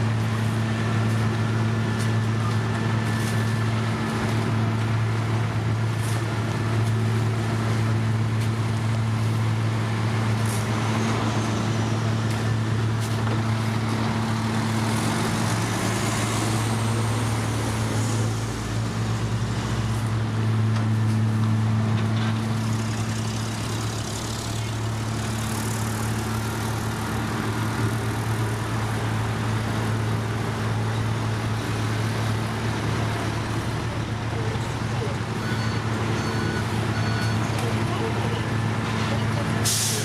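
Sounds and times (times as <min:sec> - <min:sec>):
diesel engine humming: 0:00.0 - 0:40.0.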